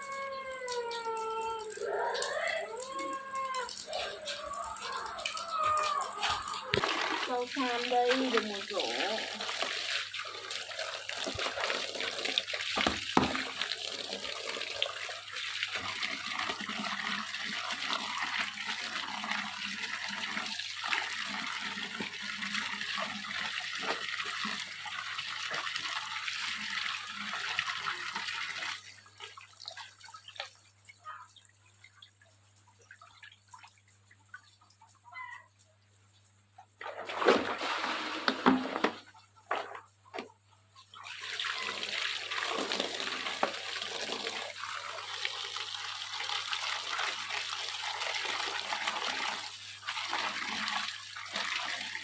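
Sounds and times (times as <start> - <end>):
water running and splashing: 0.0 - 39.8, 40.9 - 52.0.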